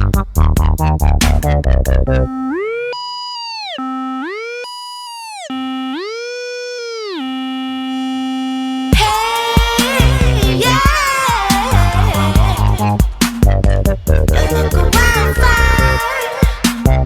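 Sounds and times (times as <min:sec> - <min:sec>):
electronic music beat: 0:00.0 - 0:17.0.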